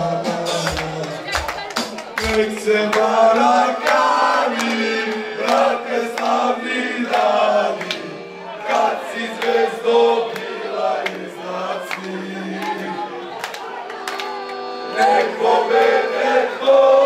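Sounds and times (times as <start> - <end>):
men singing a chant in unison: 0.0 - 1.4, 2.2 - 13.3, 15.0 - 17.0.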